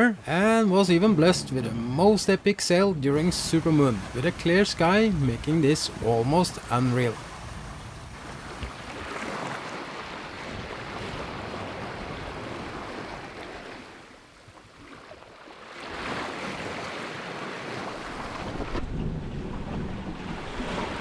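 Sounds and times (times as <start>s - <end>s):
sea water splashing along hull: 0.0s - 21.0s
wind: 0.0s - 21.0s.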